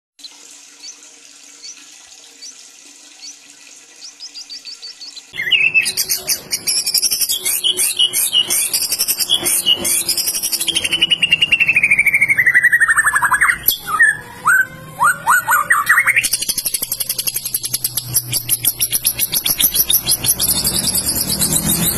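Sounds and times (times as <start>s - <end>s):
bird singing chirps and trills: 4.0s - 21.9s
faint high chirps: 4.0s - 21.9s.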